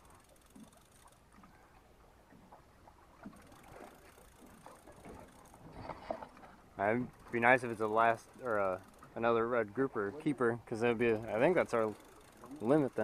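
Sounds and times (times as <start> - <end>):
water sloshing against hull: 0.0 - 13.0.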